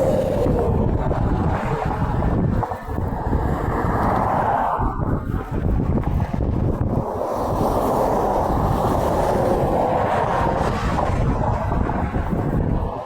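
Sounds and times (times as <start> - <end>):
highway traffic rushing: 0.0 - 13.0
passing trucks: 0.0 - 13.0
wind buffeting microphone: 0.0 - 13.0.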